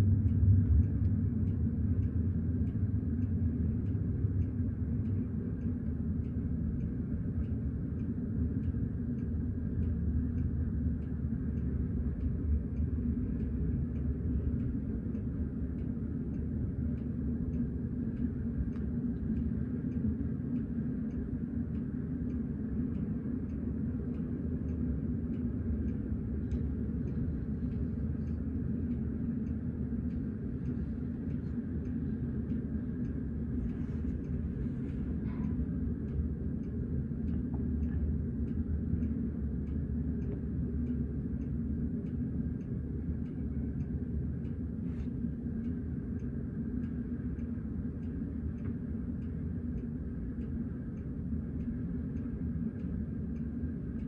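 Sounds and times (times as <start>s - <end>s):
distant freight train rumble: 0.0s - 50.8s
faint regular clicking: 0.3s - 54.0s.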